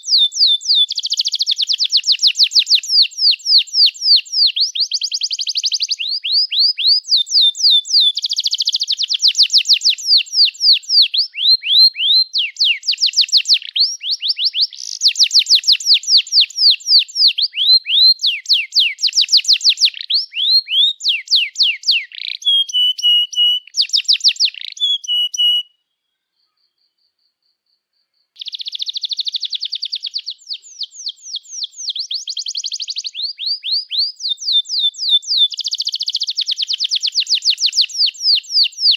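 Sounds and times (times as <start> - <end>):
canary singing trills: 0.0 - 27.0, 28.4 - 38.9.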